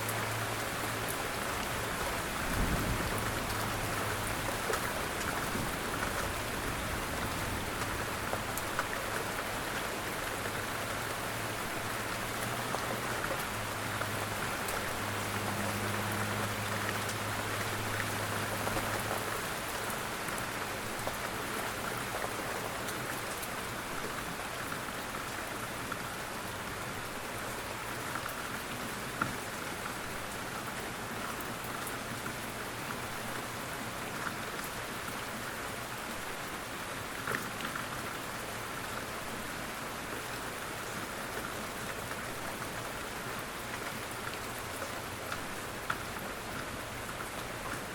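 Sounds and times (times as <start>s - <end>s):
rain pattering: 0.0s - 47.9s.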